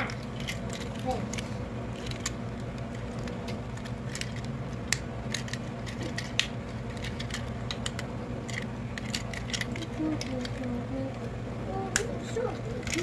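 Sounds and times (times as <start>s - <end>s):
plastic toy parts clicking: 0.0s - 11.2s, 11.9s - 13.0s
steady low hum: 0.0s - 13.0s.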